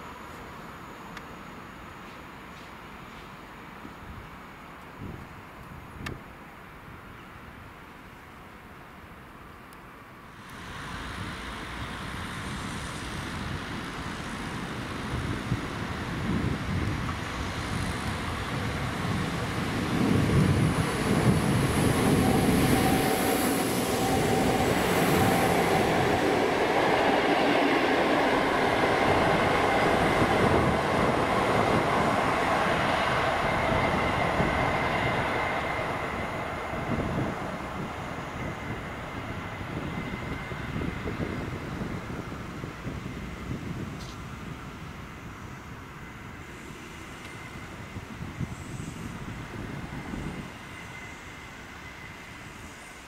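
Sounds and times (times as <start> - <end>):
passenger train passing: 0.0 - 53.0.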